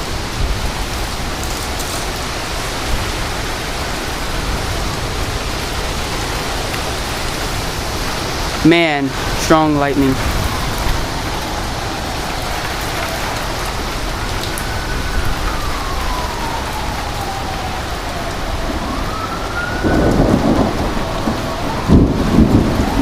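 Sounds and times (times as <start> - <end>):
distant siren wailing: 0.0 - 23.0
heavy rain: 0.0 - 23.0
thunder rumbling: 0.0 - 23.0
wind noise: 0.0 - 23.0.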